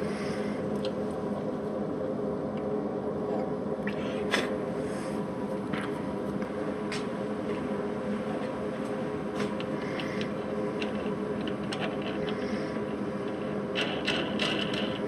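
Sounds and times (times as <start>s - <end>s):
electric machine hum: 0.0s - 15.0s.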